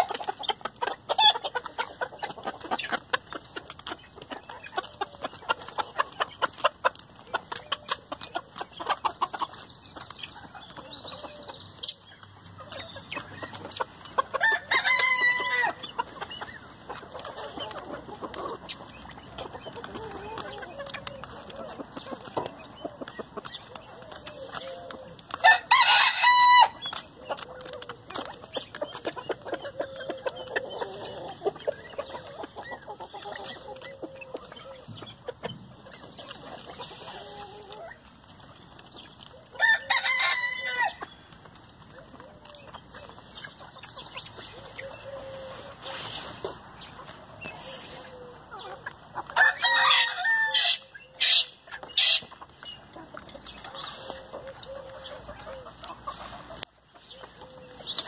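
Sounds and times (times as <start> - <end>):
chickens clucking softly: 0.0 - 58.0.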